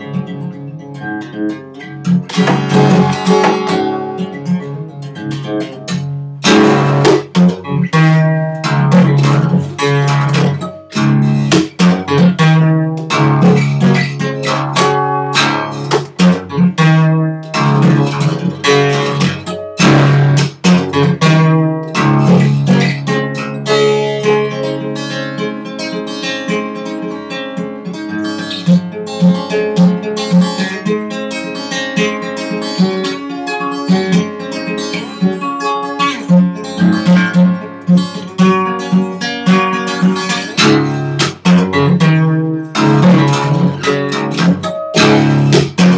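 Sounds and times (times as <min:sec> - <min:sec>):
acoustic guitar: 0:00.0 - 0:45.9.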